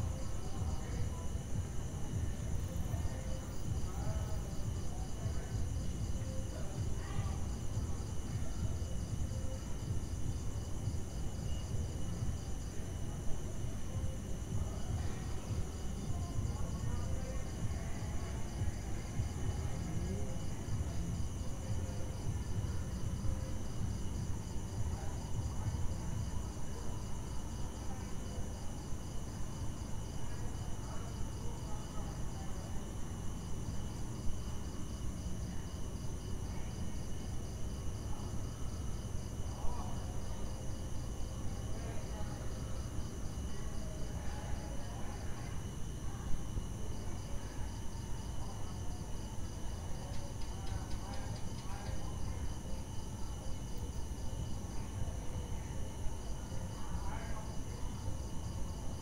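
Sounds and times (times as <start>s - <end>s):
crickets and insects chirping: 0.0s - 59.0s.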